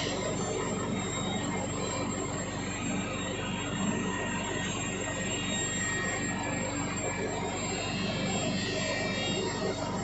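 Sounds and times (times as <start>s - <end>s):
lathe motor hum with pulsing: 0.0s - 10.0s.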